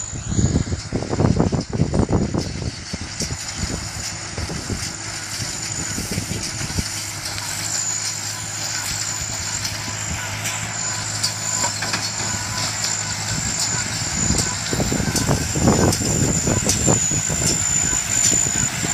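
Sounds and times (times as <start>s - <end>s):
baler humming and whining: 0.0s - 18.9s.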